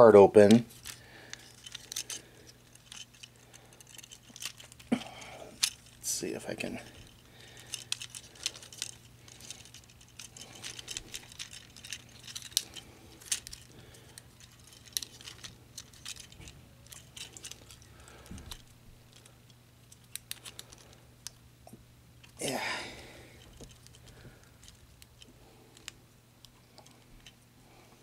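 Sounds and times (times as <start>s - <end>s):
plastic toy parts clicking: 0.7s - 6.0s, 7.0s - 21.4s, 23.4s - 27.4s.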